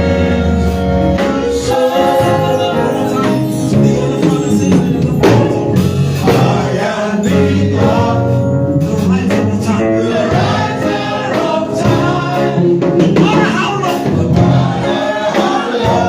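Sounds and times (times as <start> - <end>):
instrumental accompaniment with beat: 0.0 - 16.0
voices singing together: 0.0 - 16.0.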